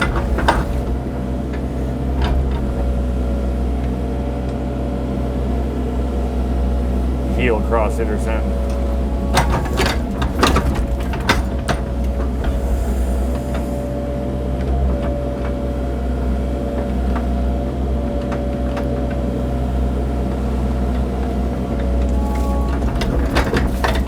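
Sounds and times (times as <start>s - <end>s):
diesel engine running: 0.0s - 24.0s
hydraulic whine: 0.0s - 24.0s.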